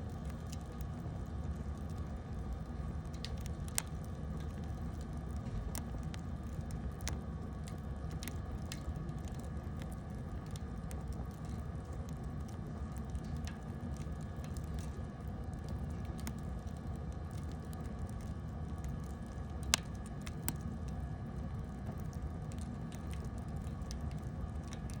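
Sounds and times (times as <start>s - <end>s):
burning wood crackling: 0.0s - 25.0s
fire low rumble: 0.0s - 25.0s.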